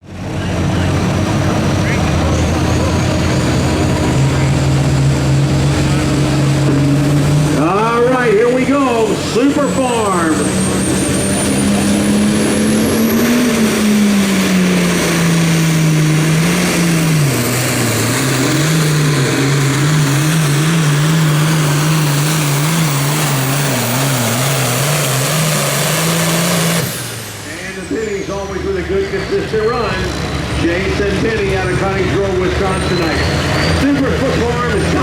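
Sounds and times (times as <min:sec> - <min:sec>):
high turbo whine: 0:00.0 - 0:35.0
tractor diesel engine under load: 0:00.0 - 0:35.0.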